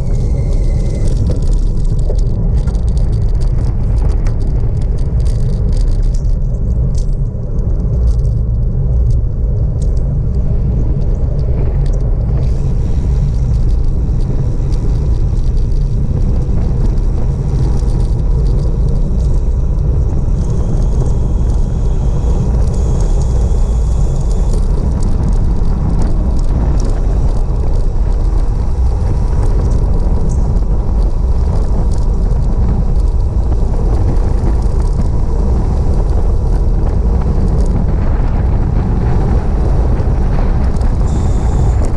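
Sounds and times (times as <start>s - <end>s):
tyres rolling on asphalt: 0.0s - 41.9s
wind buffeting microphone: 0.0s - 41.9s.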